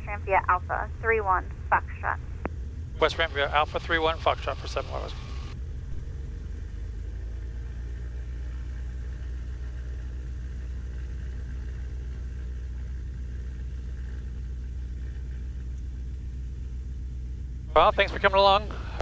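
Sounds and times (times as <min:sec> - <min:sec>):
piston aircraft engines droning: 0:00.0 - 0:19.0.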